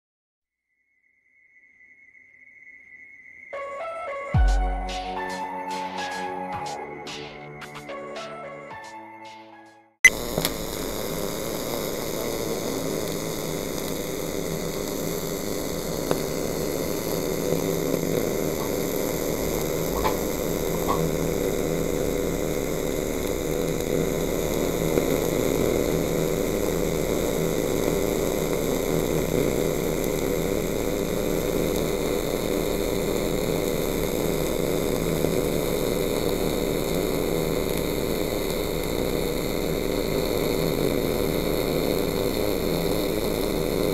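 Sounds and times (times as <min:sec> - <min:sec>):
welding arc hissing buzz: 0:04.5 - 0:07.5, 0:10.0 - 0:43.9.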